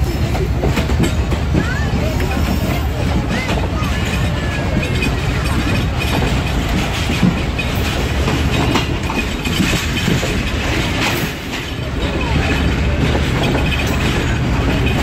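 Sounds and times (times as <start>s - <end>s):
train rumbling: 0.0s - 15.0s
wheels clattering over rail joints: 0.0s - 15.0s.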